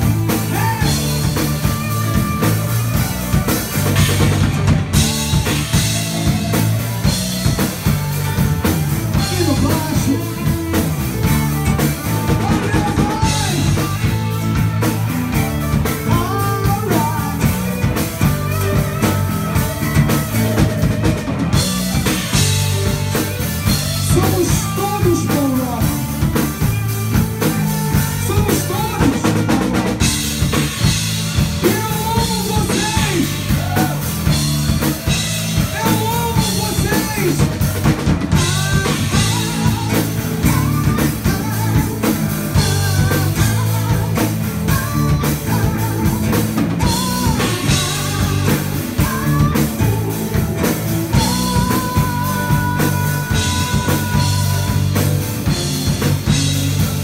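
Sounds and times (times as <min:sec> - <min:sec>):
live rock band playing: 0:00.0 - 0:57.0
steady drum beat: 0:00.0 - 0:57.0.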